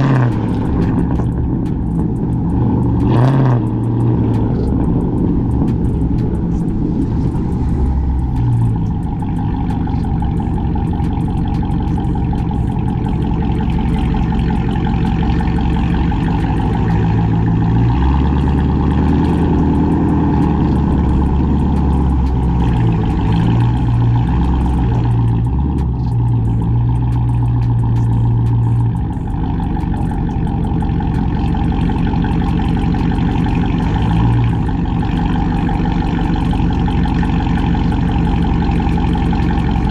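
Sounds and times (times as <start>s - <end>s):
car exhaust loud low drone: 0.0s - 39.9s.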